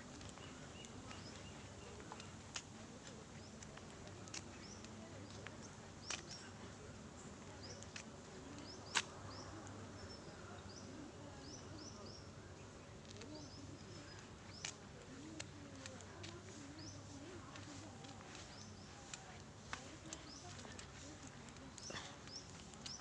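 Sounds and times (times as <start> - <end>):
faint low murmur: 0.0 - 23.0.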